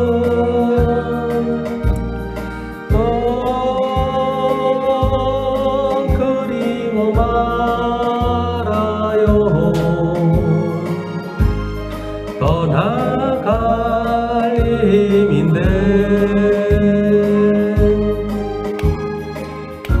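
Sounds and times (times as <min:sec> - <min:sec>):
man singing into microphone: 0:00.0 - 0:02.1, 0:02.8 - 0:11.5, 0:12.3 - 0:18.5
karaoke backing track with bass beat: 0:00.0 - 0:20.0.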